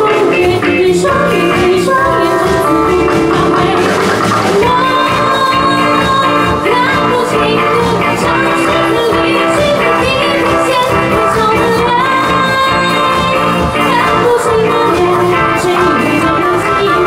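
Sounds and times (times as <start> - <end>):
bass guitar: 0.0 - 17.0
drums: 0.0 - 17.0
electric guitar: 0.0 - 17.0
woman singing into microphone: 0.0 - 17.0.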